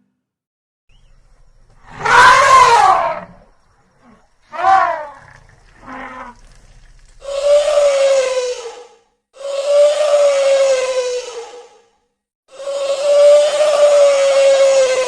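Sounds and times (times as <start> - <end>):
elephant trumpeting: 1.3 - 11.8, 12.6 - 15.0.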